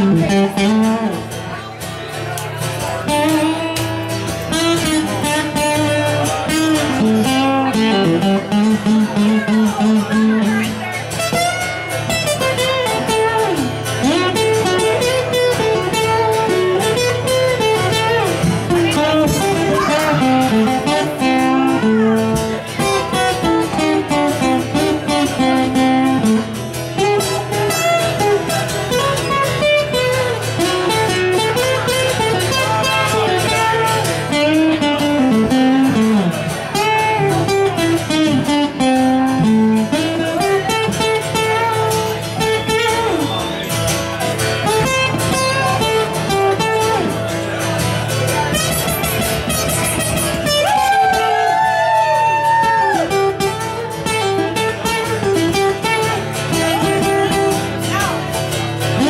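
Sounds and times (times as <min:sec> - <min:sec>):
acoustic guitar chords: 0:00.0 - 0:59.0
acoustic guitar lead line: 0:00.0 - 0:59.0.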